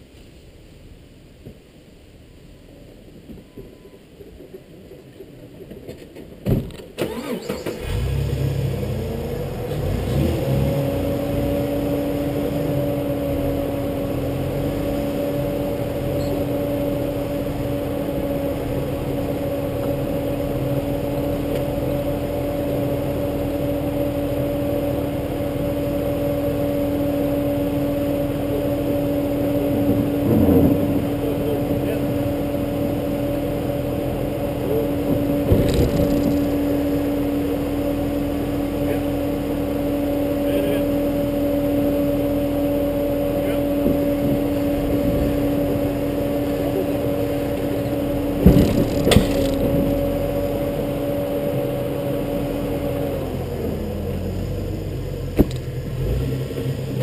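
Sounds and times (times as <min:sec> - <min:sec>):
car engine starting and idling: 0:00.0 - 0:57.0
engine whine: 0:00.0 - 0:57.0.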